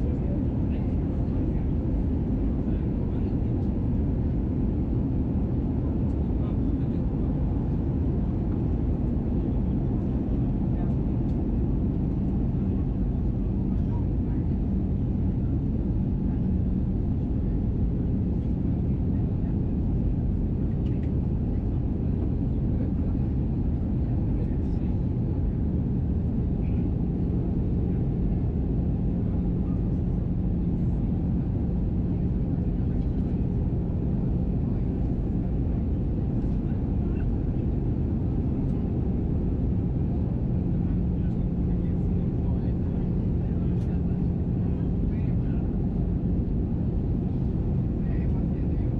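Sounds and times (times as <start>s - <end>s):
aircraft cabin engine rumble: 0.0s - 48.9s
steady low hum: 0.0s - 48.9s.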